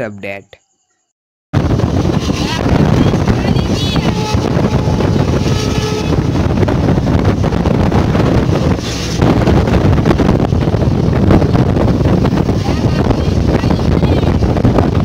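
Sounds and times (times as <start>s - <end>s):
wind rushing over microphone: 1.6s - 15.0s.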